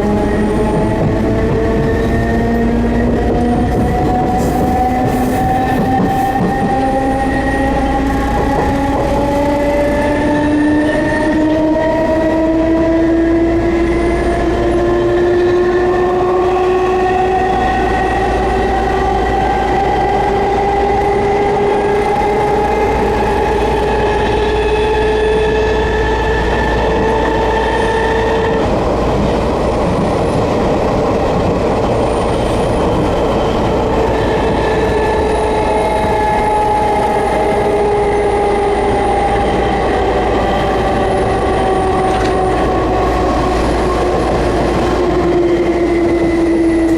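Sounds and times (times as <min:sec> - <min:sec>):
rail running noise: 0:00.0 - 0:46.9
train traction motors whining: 0:00.0 - 0:46.9.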